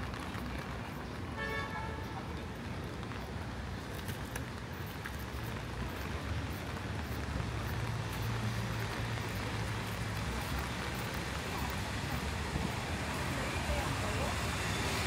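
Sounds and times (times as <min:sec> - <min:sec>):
rain falling on street: 0:00.0 - 0:15.0
vehicle engine hum: 0:00.0 - 0:15.0.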